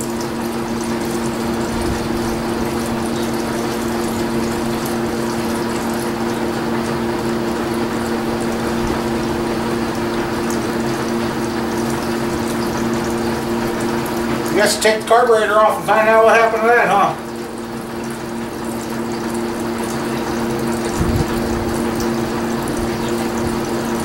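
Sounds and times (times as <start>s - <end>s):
oil draining into container: 0.0s - 24.0s
steady hum: 0.0s - 24.0s.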